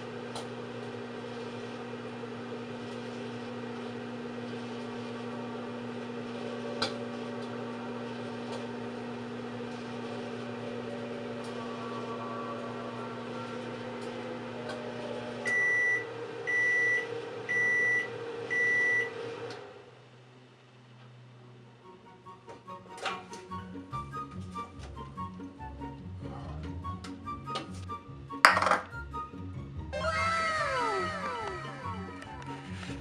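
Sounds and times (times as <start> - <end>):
fan running down: 0.0 - 22.0, 22.6 - 33.0
microwave oven humming: 0.0 - 33.0.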